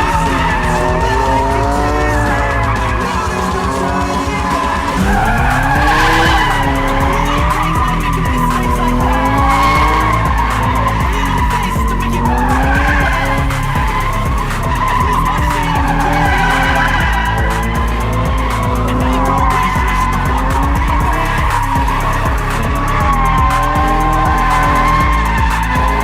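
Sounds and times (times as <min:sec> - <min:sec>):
car engine revving: 0:00.0 - 0:26.0
tyres skidding and squealing: 0:00.0 - 0:26.0.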